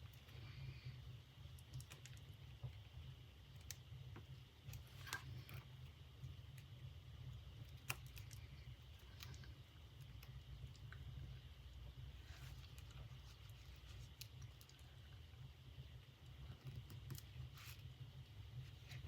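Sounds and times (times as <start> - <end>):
faint clicks and handling noises: 0.0 - 15.4, 16.0 - 19.0
low steady hum: 0.0 - 19.0.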